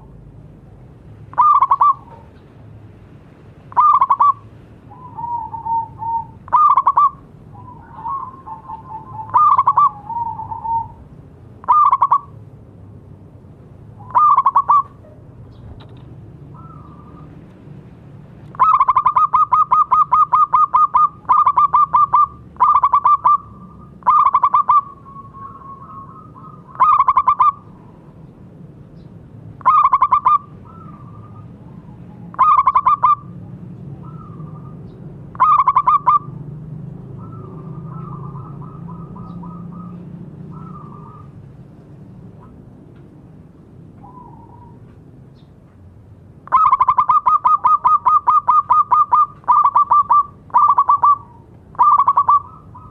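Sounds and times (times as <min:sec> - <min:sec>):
doves cooing rapidly: 0:01.3 - 0:02.4, 0:03.7 - 0:12.4, 0:13.9 - 0:17.4, 0:18.5 - 0:28.2, 0:29.6 - 0:42.8, 0:43.8 - 0:44.9, 0:46.4 - 0:52.9.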